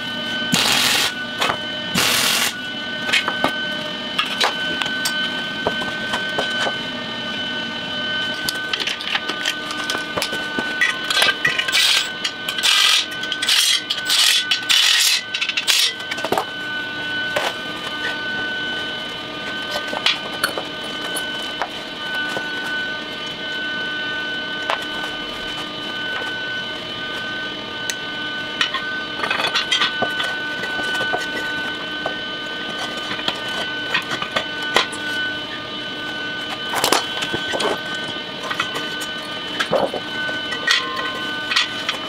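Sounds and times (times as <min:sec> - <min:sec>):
steady mechanical whine: 0:00.0 - 0:42.0.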